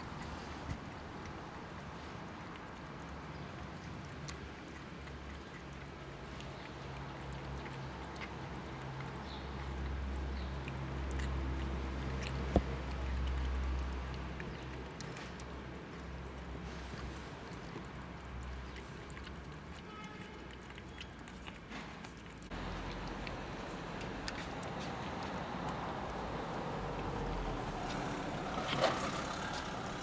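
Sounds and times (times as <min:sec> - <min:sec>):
cat chewing wet food: 0:00.0 - 0:30.0.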